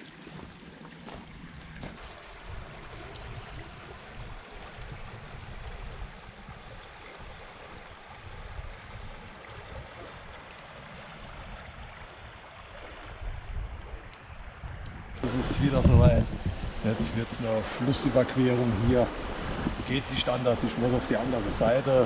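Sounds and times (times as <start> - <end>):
river flowing over gravel: 0.0 - 22.0
wind buffeting microphone: 1.2 - 22.0.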